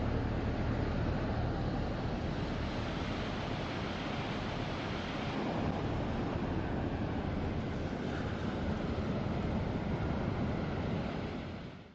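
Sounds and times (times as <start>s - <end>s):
ocean surf breaking on beach: 0.0s - 11.9s
wind buffeting microphone: 1.2s - 11.9s.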